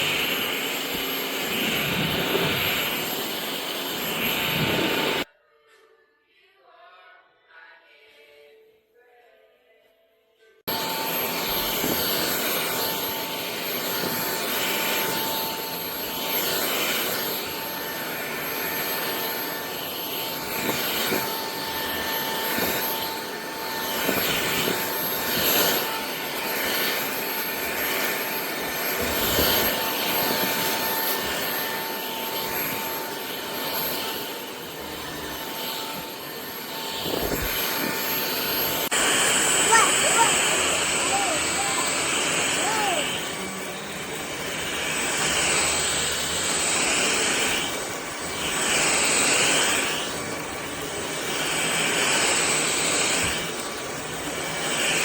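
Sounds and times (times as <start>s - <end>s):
vacuum motor whine: 0.0s - 5.3s, 10.7s - 55.0s.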